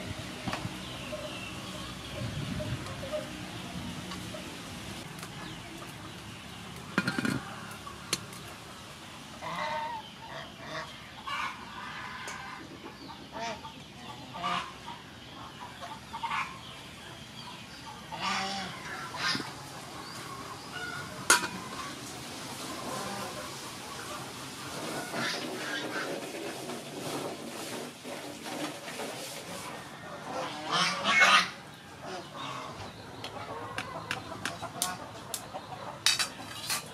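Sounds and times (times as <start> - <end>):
chickens clucking: 0.0 - 36.9.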